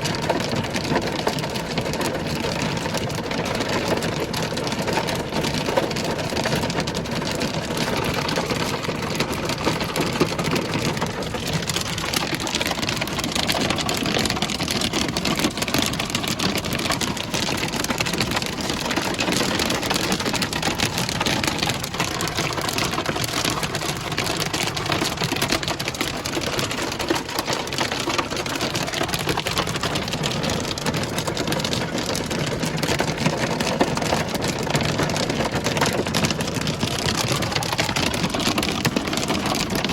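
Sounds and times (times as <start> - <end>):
hail striking hard surface: 0.0 - 39.9.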